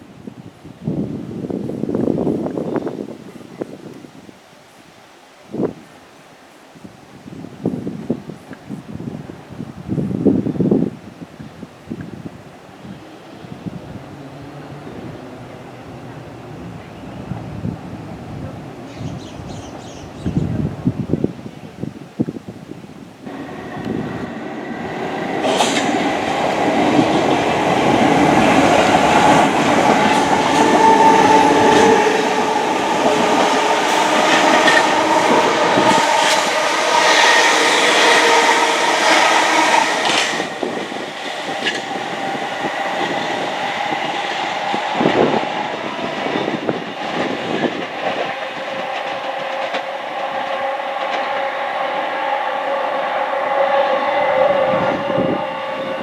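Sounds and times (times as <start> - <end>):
passenger train running past: 0.0 - 56.0.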